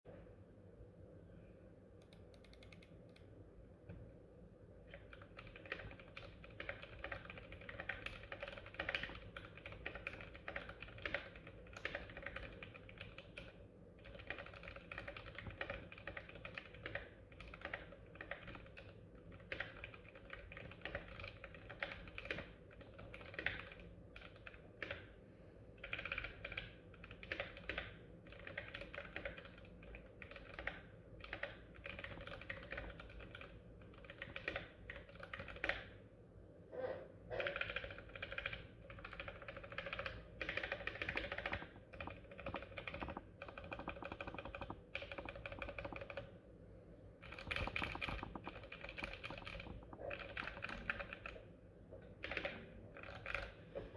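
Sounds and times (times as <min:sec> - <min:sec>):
mechanical keyboard keys clacking: 0:02.0 - 0:03.2, 0:04.9 - 0:25.0, 0:25.8 - 0:35.9, 0:37.4 - 0:46.3, 0:47.2 - 0:51.4, 0:52.2 - 0:53.5.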